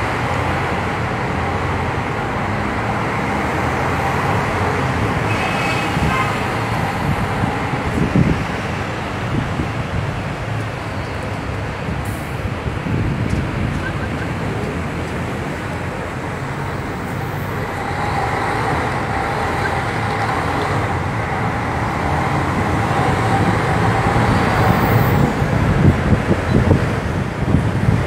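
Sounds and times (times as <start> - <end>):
bus engine: 0.0 - 28.0
road traffic rumble: 0.0 - 28.0.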